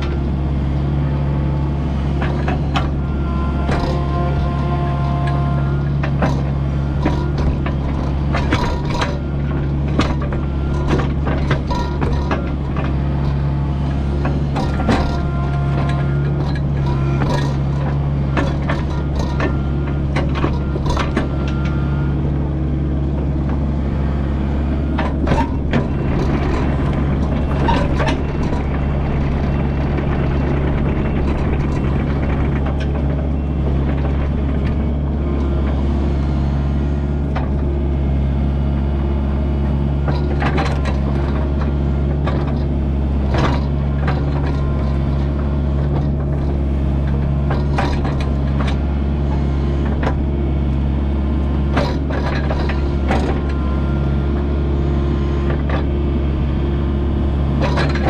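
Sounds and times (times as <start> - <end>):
diesel engine running: 0.0 - 58.0
clanks and knocks of machinery: 2.0 - 38.7, 39.3 - 58.0.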